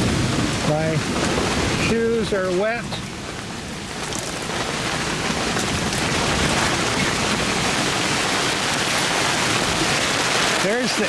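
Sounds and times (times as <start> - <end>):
heavy rain pattering: 0.0 - 11.0.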